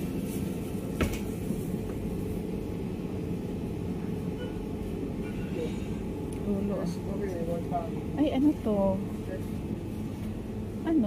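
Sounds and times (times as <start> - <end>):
supermarket background hum: 0.0 - 11.0.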